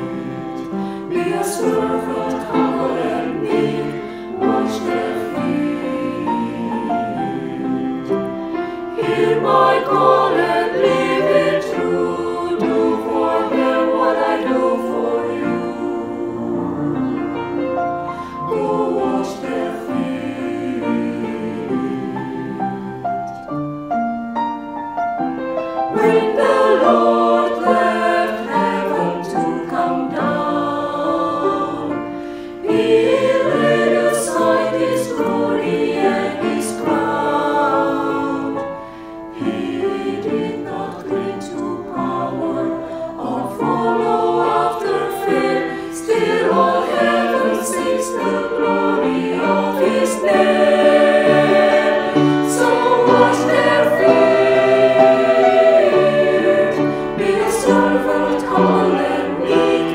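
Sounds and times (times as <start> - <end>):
choir singing an anthem: 0.0 - 23.5, 25.7 - 59.9
piano accompaniment: 0.0 - 59.9.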